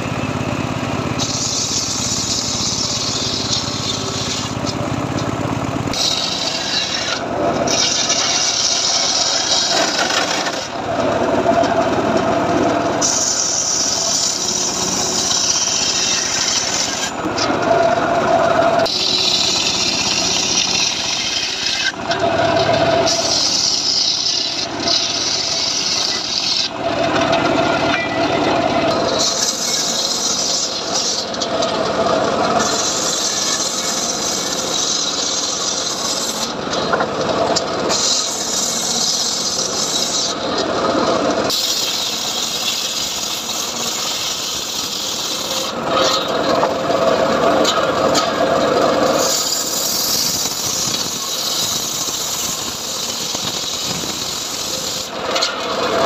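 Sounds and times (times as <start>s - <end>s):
sawmill engine running: 0.0s - 56.0s
saw rasping through wood: 1.2s - 4.8s, 5.9s - 56.0s.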